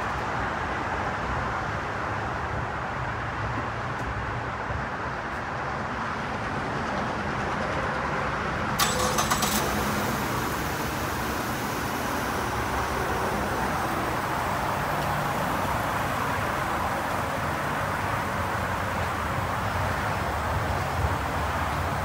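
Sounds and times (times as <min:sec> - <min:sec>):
motor vehicle noise: 0:00.0 - 0:22.0.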